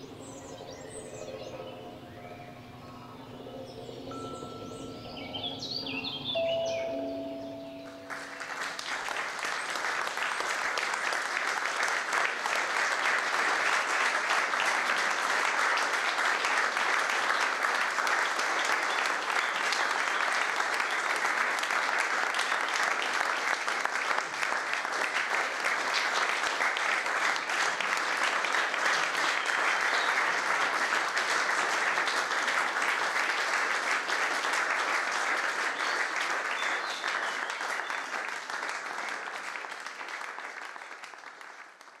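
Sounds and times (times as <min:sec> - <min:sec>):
audience applauding: 0:07.8 - 0:42.0.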